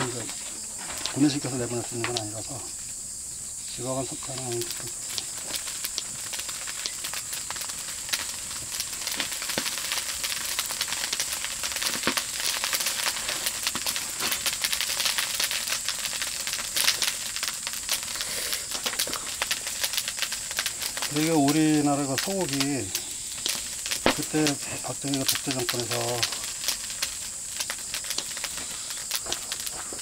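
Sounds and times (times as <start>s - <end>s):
fire crackles and pops: 0.0s - 30.0s
meat sizzling on a grill: 0.0s - 30.0s.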